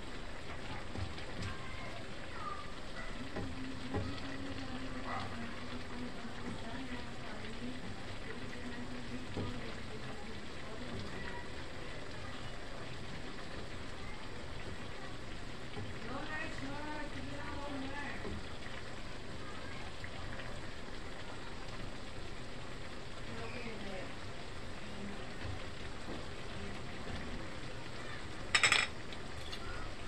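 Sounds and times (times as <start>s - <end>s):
vegetables sizzling in a wok: 0.0s - 30.0s.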